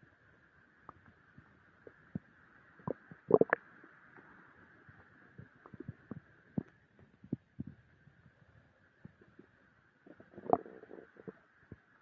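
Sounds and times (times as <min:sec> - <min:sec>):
faint steady hiss: 0:00.0 - 0:12.0
stomach gurgling: 0:00.8 - 0:07.9, 0:09.0 - 0:12.0.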